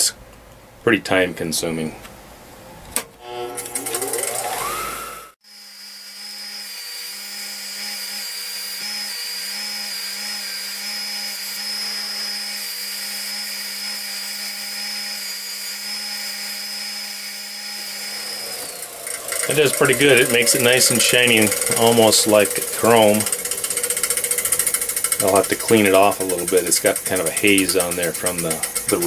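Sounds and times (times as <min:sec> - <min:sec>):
bench grinder whining: 0:03.2 - 0:29.0.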